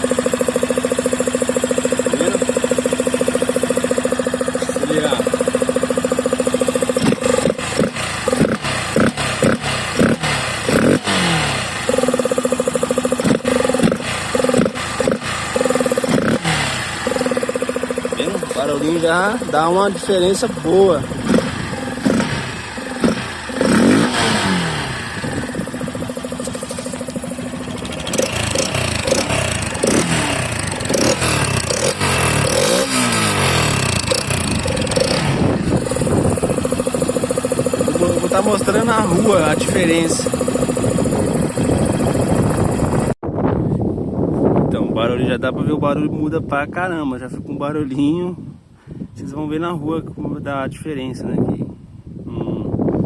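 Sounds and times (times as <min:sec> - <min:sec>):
motorcycle engine revving and idling: 0:00.0 - 0:43.2.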